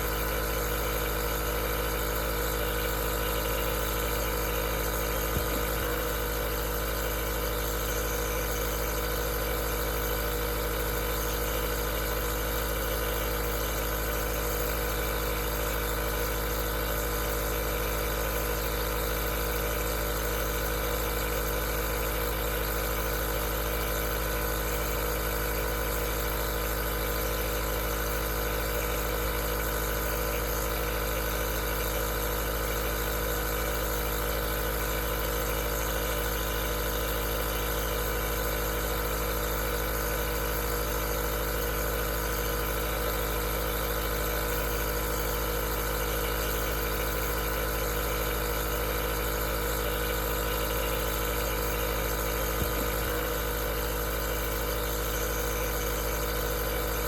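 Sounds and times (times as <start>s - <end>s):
nebulizer compressor humming: 0.0s - 57.0s.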